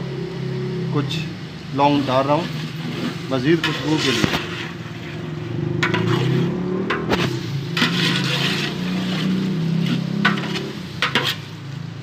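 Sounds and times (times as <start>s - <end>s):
food frying in pot: 0.0s - 12.0s
metal ladle scraping pot: 2.0s - 11.7s.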